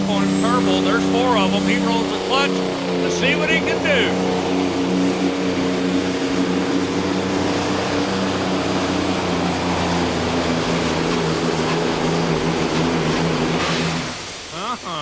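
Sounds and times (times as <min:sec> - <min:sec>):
diesel engine running flat out: 0:00.0 - 0:15.0.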